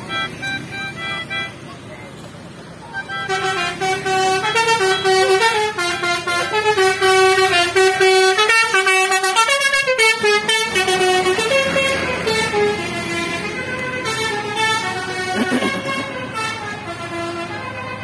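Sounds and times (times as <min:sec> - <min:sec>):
bus musical horn playing a tune: 0:00.0 - 0:01.8, 0:02.8 - 0:18.0.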